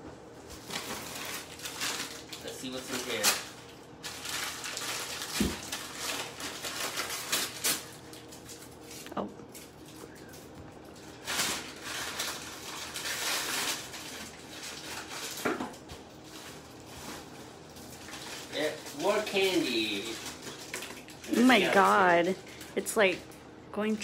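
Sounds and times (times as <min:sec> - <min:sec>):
plastic bag crinkling: 0:00.5 - 0:23.4.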